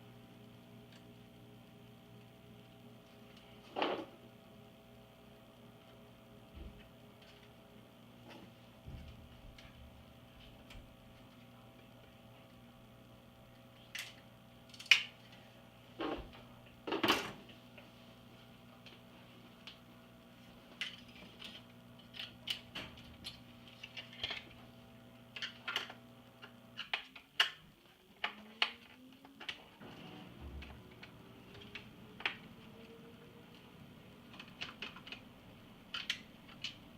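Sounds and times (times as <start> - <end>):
steady background hum: 0.0 - 36.9.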